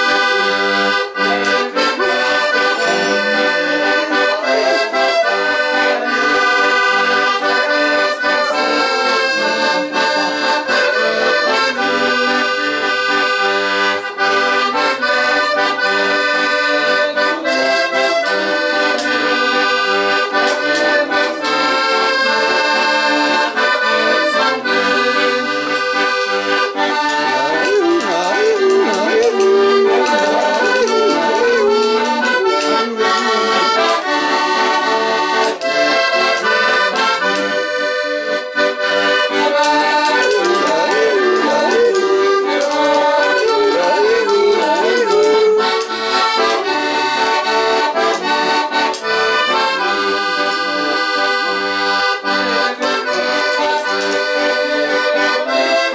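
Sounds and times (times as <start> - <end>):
accordion playing: 0.0 - 55.9.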